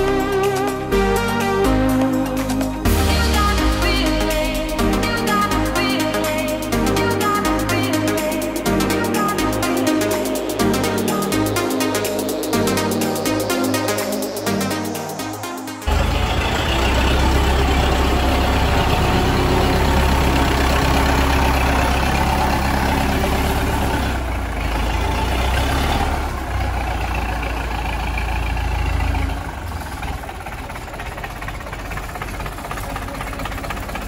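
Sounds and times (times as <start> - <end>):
tractor diesel engine idling: 0.0 - 34.0.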